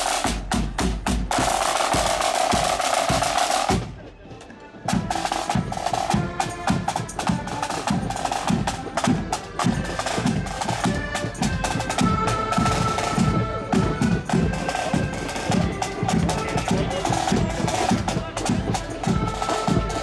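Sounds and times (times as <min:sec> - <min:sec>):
accordion chords: 0:00.0 - 0:20.0
snare drums: 0:00.0 - 0:20.0.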